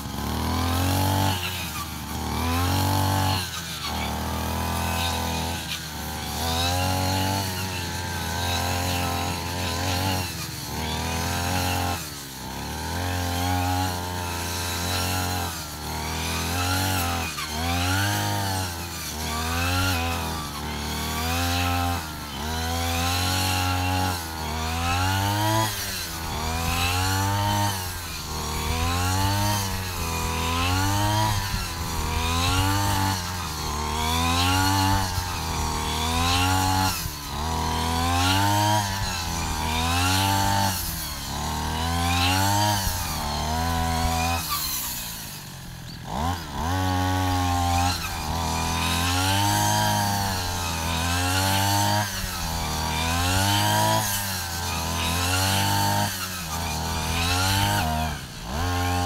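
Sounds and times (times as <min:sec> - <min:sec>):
brush cutter engine revving: 0:00.0 - 0:59.0.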